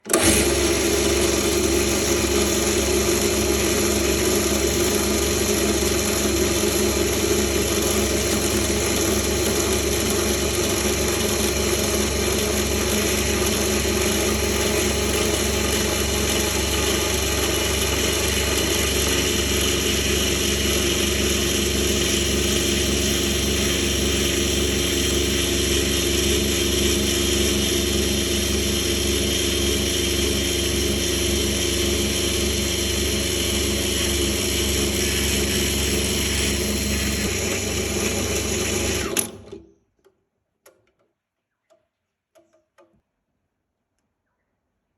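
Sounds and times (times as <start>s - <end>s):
bench drill motor hum: 0.0s - 39.7s.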